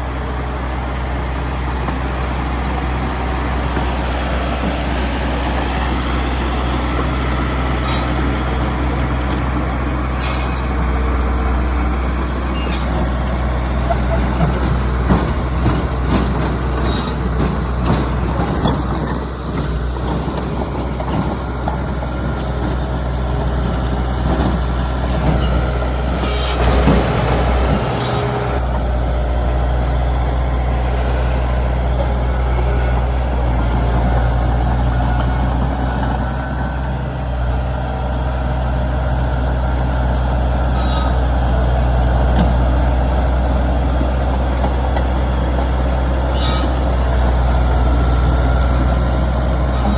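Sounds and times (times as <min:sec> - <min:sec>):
heavy diesel machinery drone: 0:00.0 - 0:49.9.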